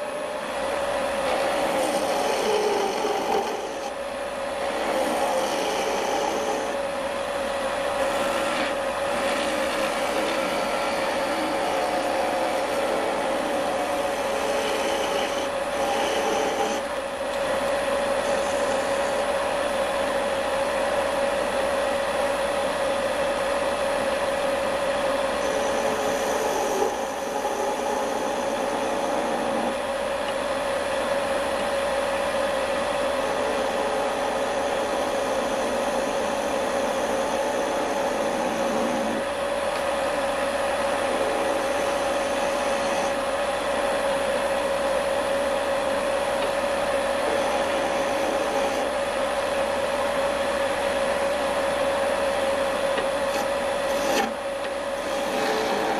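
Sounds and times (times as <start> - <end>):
wood lathe motor whining: 0.0 - 55.9.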